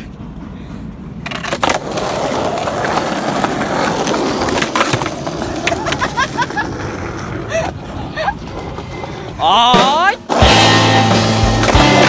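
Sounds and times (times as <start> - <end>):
skateboard clacking on ground: 0.0 - 10.6, 11.3 - 12.0
skateboard wheels rolling on paving: 0.0 - 12.0.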